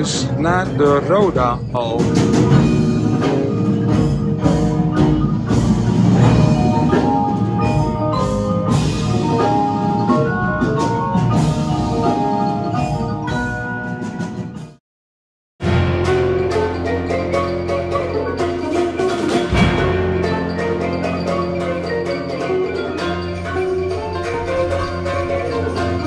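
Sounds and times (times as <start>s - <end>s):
mallet notes ringing: 0.0s - 14.6s, 15.8s - 26.0s
low drums: 0.0s - 14.8s, 15.6s - 26.0s.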